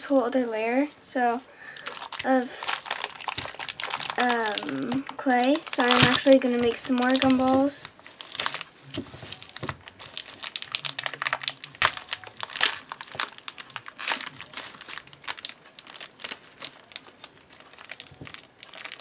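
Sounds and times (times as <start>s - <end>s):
modelling clay crinkling in hands: 1.7s - 19.0s.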